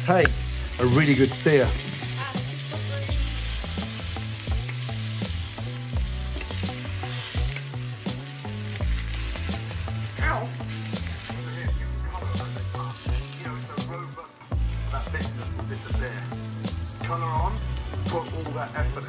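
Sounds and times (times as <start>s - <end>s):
background music with bass beat: 0.0s - 19.0s
eggplants sizzling in hot oil: 0.0s - 19.0s
tongs turning food in pan: 0.0s - 19.0s.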